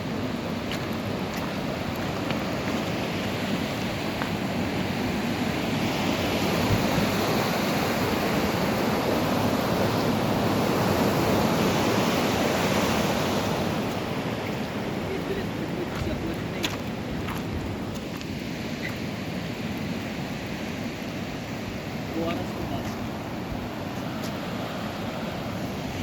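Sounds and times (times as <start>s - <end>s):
fast-flowing stream water: 0.0s - 26.0s.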